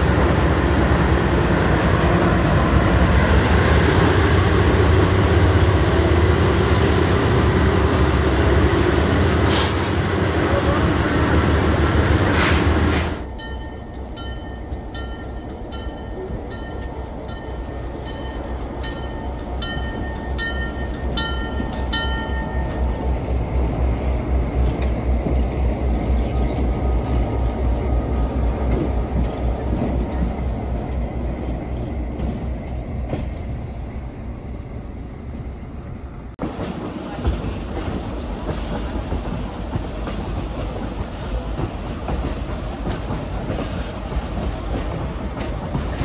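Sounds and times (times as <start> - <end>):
train passing rumble: 0.0 - 46.0.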